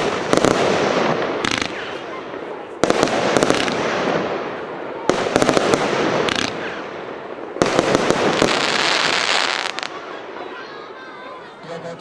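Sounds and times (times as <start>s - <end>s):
firework bangs and crackling: 0.0s - 10.6s.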